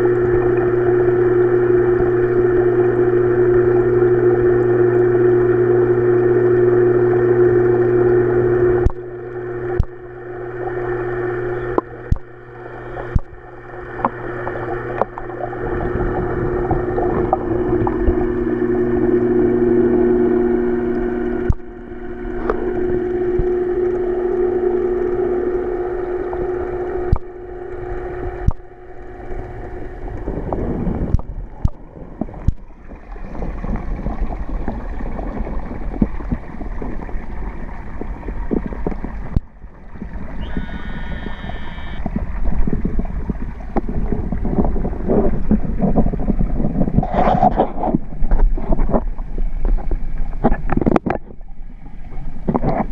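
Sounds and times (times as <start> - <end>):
water pump hum: 0.0 - 52.9.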